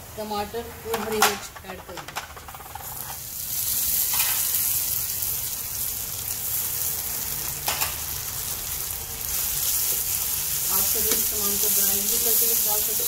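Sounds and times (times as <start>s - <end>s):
tomatoes sizzling in oil: 2.4s - 13.0s.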